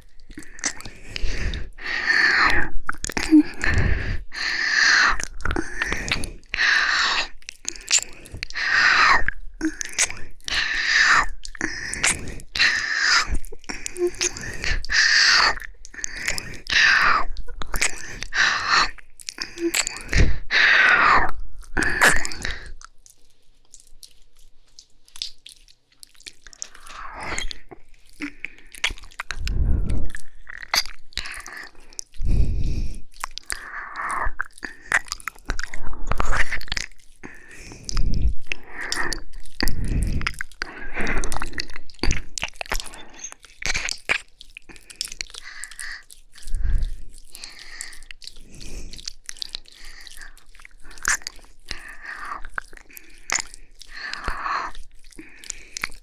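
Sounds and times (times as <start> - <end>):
wet licking and kissing sounds: 0.0 - 56.0.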